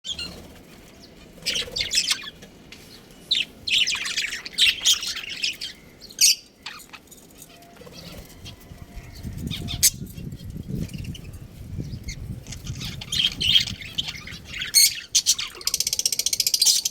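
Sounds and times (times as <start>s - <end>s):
budgerigars chirping: 0.1s - 16.9s.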